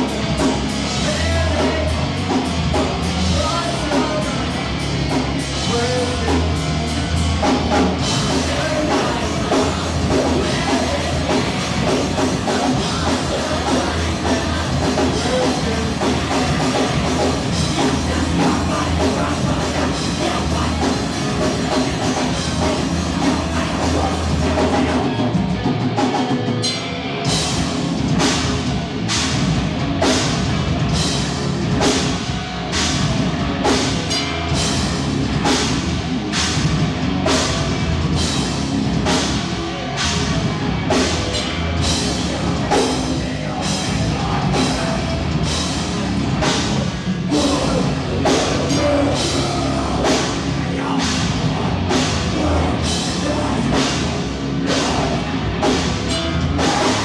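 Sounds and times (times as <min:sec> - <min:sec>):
drums hitting steady beat: 0:00.0 - 0:57.0
live heavy rock band: 0:00.0 - 0:57.0.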